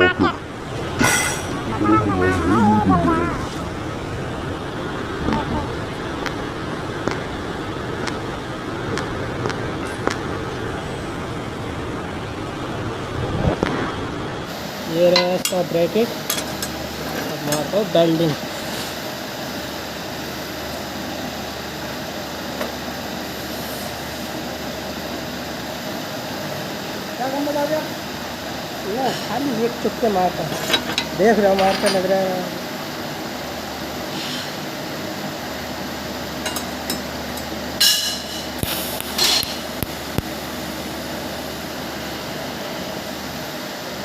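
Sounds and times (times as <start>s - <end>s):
steady hum: 0.0s - 44.0s
welding machine hiss and whir: 5.7s - 44.0s.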